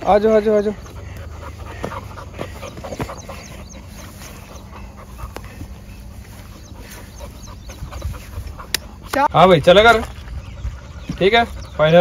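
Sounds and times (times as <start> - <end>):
puppies panting: 0.0 - 12.0.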